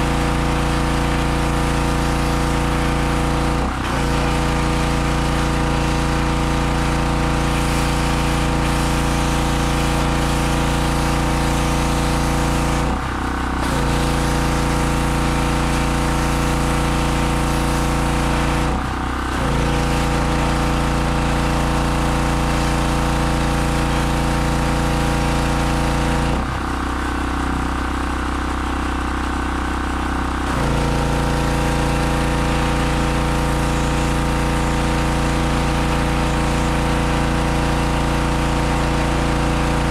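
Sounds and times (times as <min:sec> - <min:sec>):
hissing water spray: 0:00.0 - 0:26.5, 0:30.5 - 0:39.9
pressure washer engine running: 0:00.0 - 0:39.9.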